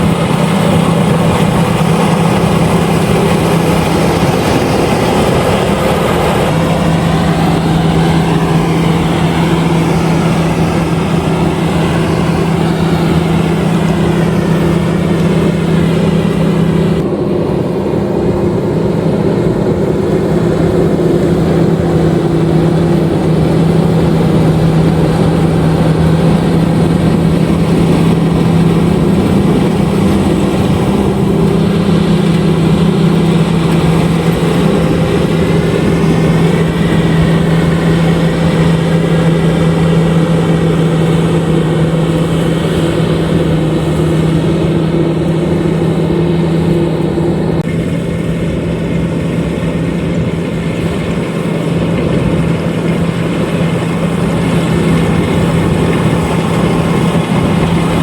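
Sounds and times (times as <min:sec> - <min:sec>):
harvester engine drone: 0:00.0 - 0:58.0.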